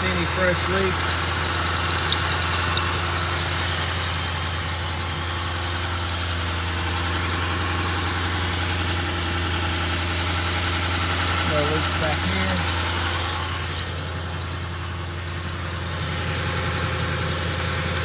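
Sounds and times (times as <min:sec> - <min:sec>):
car engine idling: 0:00.0 - 0:18.0
high-pitched squeal: 0:00.0 - 0:18.0.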